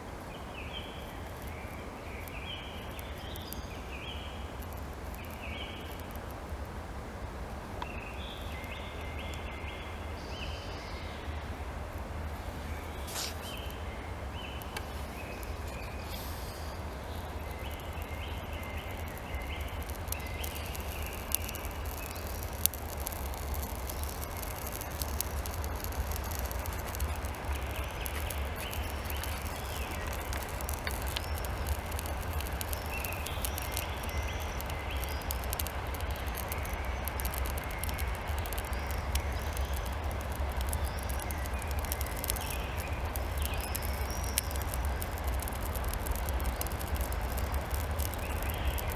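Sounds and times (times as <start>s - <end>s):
birds chirping: 7.8s - 48.9s.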